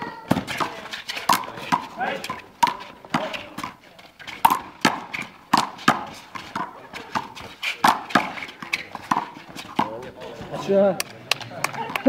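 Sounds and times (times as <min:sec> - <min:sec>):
ball hitting concrete wall: 0:00.0 - 0:12.0.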